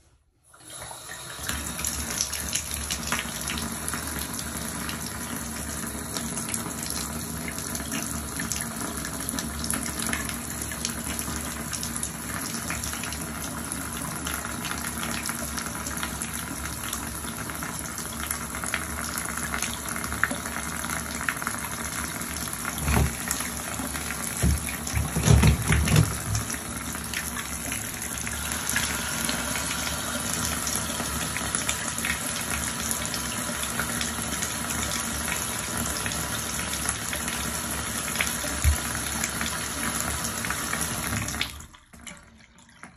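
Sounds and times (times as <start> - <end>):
tap water running into bathtub: 0.4 - 42.9.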